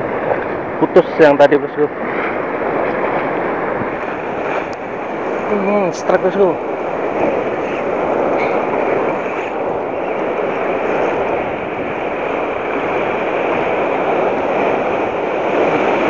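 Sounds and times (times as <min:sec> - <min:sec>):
surf breaking on beach: 0:00.0 - 0:16.0.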